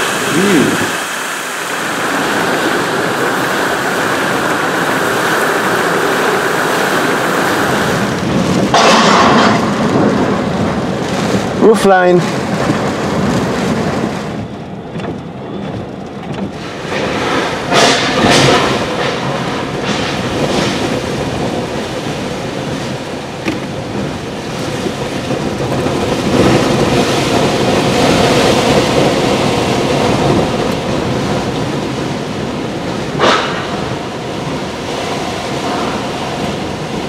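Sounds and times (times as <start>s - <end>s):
driving rain: 0.0s - 37.0s
wind buffeting vehicle: 0.0s - 37.0s.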